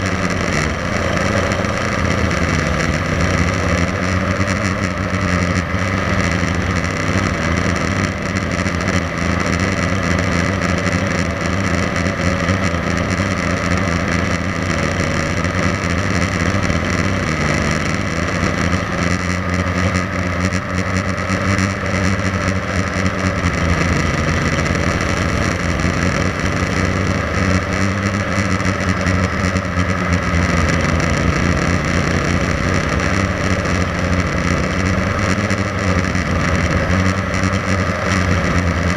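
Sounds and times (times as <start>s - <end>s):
drone motors buzzing: 0.0s - 38.9s.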